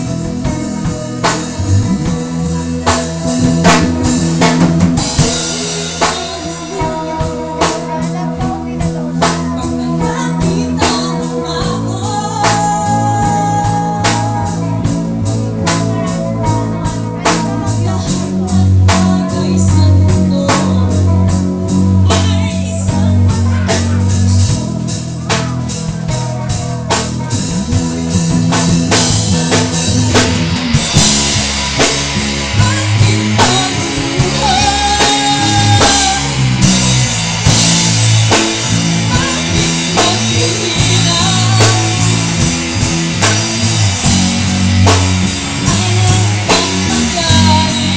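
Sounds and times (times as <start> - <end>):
person singing: 0.0 - 47.9
rock band playing: 0.0 - 47.9.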